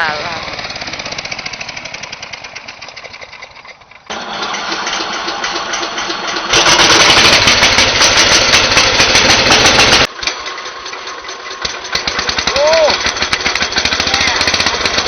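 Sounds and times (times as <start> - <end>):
small engine running hard: 0.0 - 15.0.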